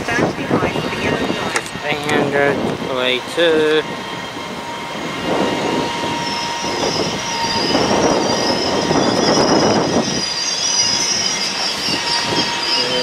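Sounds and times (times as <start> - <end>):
high-pitched wheel squeal: 0.0 - 13.0
train wheels rumbling on rails: 0.0 - 13.0.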